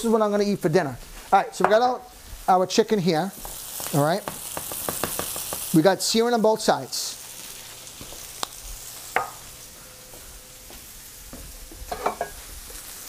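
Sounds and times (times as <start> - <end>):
chicken sizzling in a frying pan: 0.1 - 13.0.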